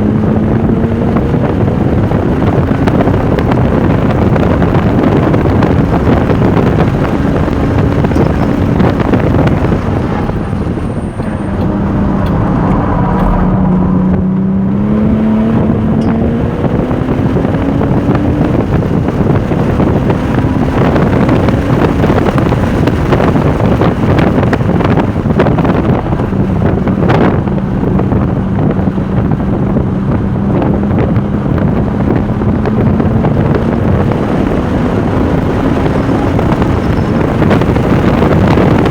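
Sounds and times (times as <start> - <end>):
car engine at speed: 0.0 - 38.9
heavy wind noise: 0.0 - 38.9.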